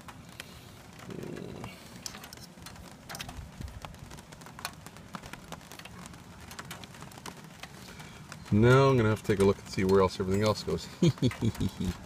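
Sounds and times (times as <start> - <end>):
raindrops tapping: 0.0 - 12.0.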